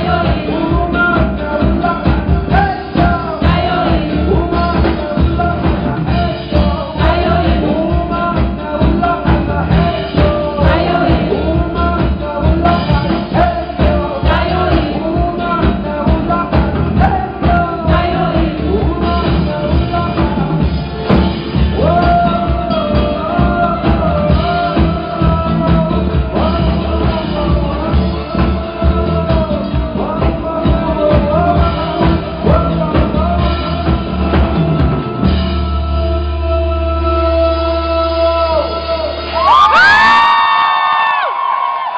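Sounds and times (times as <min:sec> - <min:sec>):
drums: 0:00.0 - 0:41.9
lead singer singing: 0:00.0 - 0:41.9
rock band playing: 0:00.0 - 0:41.9.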